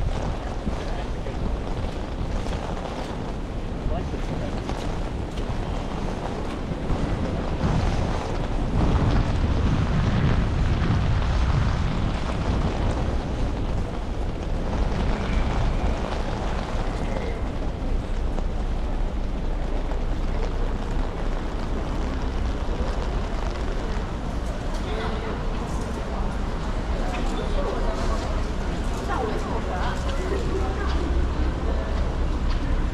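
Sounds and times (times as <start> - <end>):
rain hissing: 0.0 - 32.9
wind buffeting microphone: 0.0 - 32.9.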